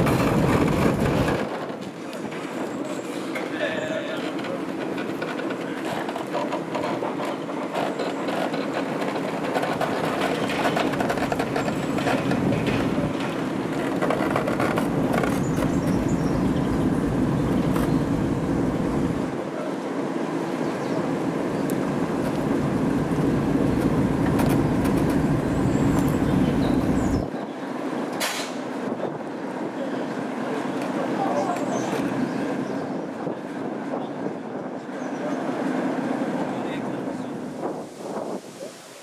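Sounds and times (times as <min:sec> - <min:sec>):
wind rumble on microphone: 0:00.0 - 0:02.8, 0:04.8 - 0:19.4, 0:20.6 - 0:28.0, 0:31.0 - 0:39.0
wheels creaking and clicking on track: 0:00.0 - 0:19.4, 0:21.5 - 0:27.3, 0:29.6 - 0:37.8
steam locomotive rumble: 0:00.0 - 0:39.0.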